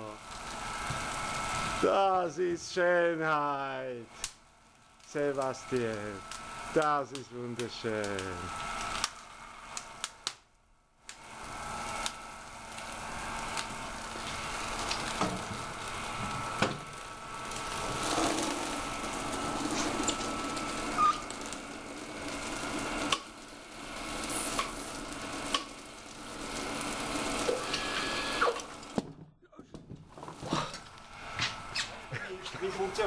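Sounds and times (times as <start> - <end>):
cryogenic liquid sizzling and boiling: 0.0 - 29.0, 30.1 - 33.0.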